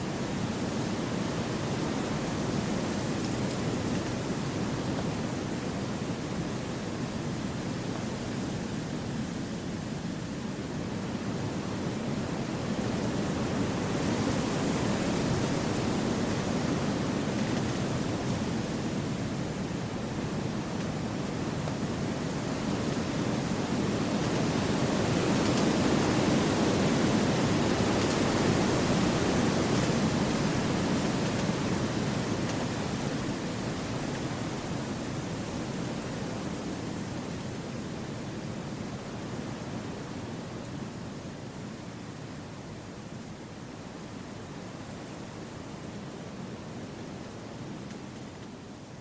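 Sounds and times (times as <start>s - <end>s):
wind through forest trees: 0.0s - 49.0s.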